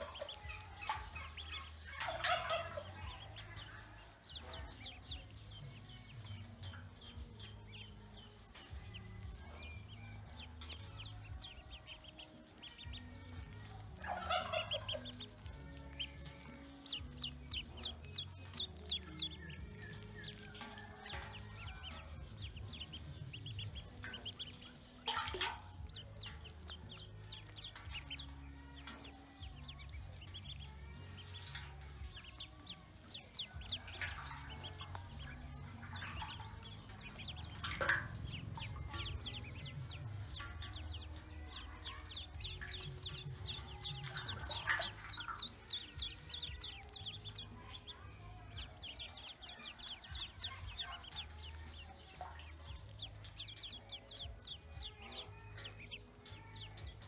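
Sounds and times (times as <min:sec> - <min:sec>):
ducklings peeping: 0:00.0 - 0:57.0.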